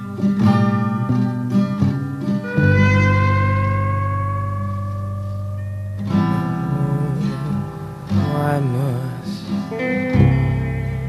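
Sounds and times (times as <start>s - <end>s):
acoustic guitar plucked and strummed: 0.0s - 11.0s.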